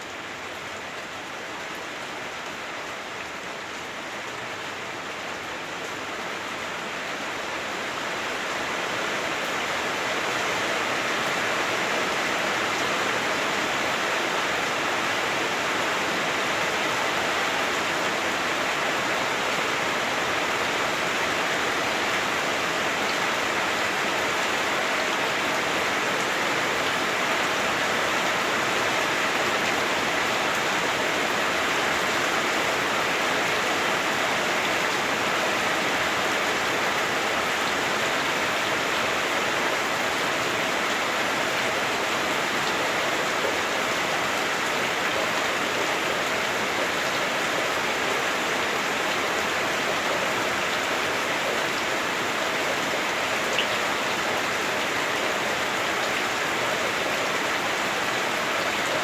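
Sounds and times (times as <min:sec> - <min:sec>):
heavy rain on roof: 0:00.0 - 0:59.0.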